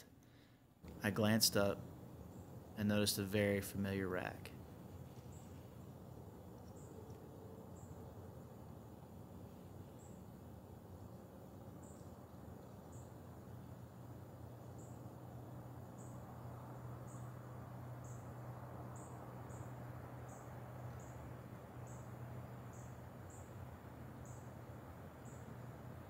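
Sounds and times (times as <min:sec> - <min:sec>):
faint low hum: 0:00.0 - 0:26.0
cricket chirping: 0:01.1 - 0:03.6, 0:04.2 - 0:26.0.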